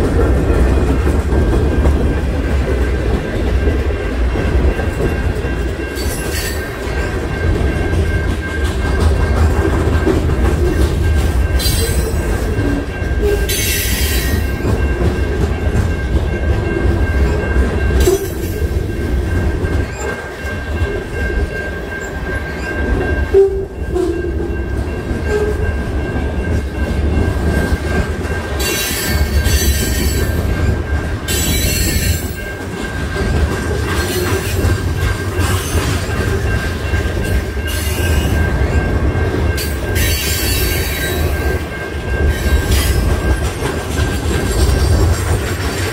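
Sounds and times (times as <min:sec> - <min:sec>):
freight train rumbling: 0:00.0 - 0:45.9.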